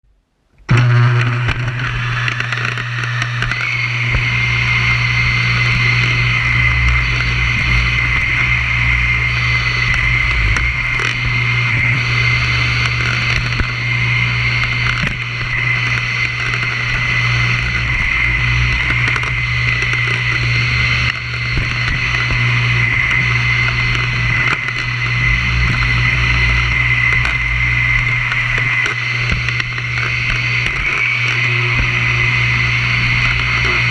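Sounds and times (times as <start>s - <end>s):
vacuum cleaner running: 0.6s - 33.9s.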